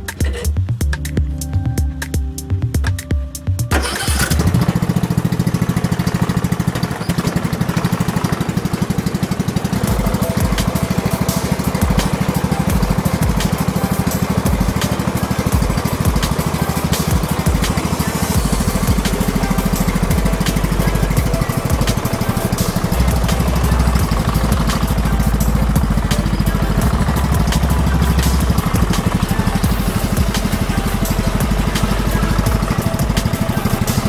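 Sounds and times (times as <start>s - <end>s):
lawn tractor engine running: 3.6s - 34.0s.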